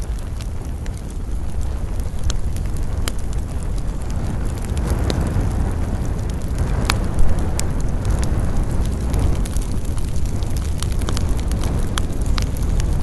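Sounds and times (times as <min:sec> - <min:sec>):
campfire burning rumble: 0:00.0 - 0:13.0
wood crackling and popping: 0:00.0 - 0:13.0.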